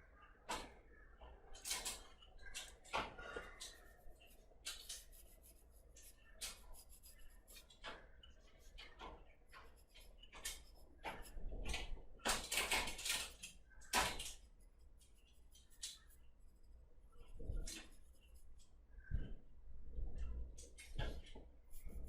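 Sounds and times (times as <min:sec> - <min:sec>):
pencil strokes scratching on paper: 0:02.7 - 0:19.3, 0:21.0 - 0:22.0.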